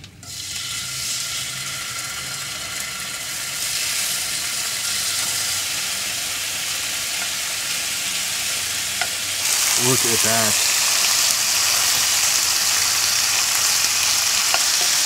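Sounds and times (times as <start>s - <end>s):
pork frying in hot pan: 0.2s - 15.0s.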